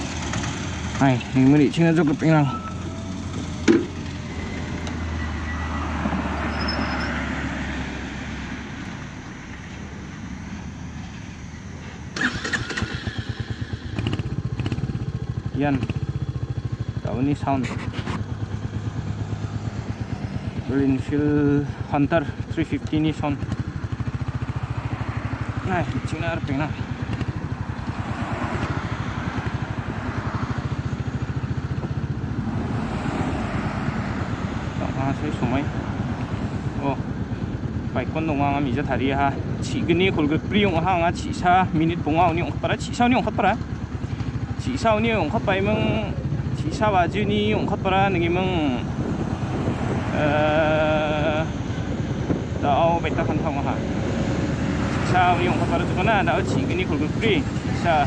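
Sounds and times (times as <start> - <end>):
motorcycle engine starting and idling: 0.0 - 58.0
wind and road noise: 0.0 - 58.0.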